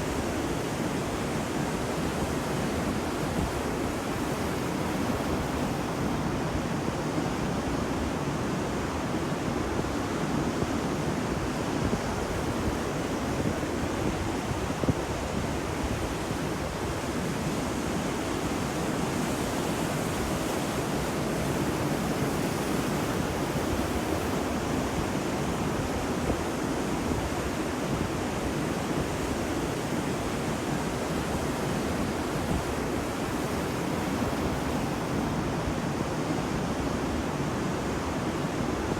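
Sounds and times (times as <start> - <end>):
ocean surf on beach: 0.0 - 38.9.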